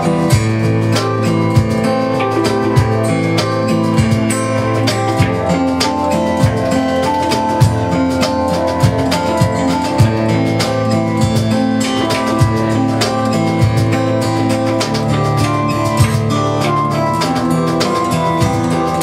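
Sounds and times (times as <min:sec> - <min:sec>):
bass: 0:00.0 - 0:19.0
drum kit beat: 0:00.0 - 0:19.0
strummed guitar: 0:00.0 - 0:19.0.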